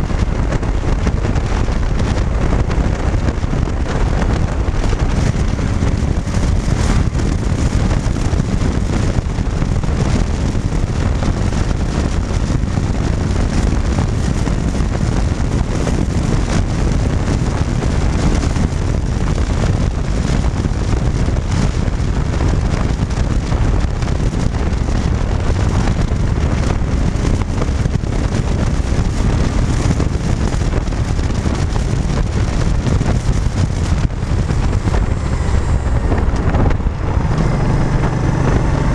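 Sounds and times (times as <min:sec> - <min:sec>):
motorcycle engine running: 0:00.0 - 0:38.9
road noise: 0:00.0 - 0:38.9
wind buffeting microphone: 0:00.0 - 0:38.9.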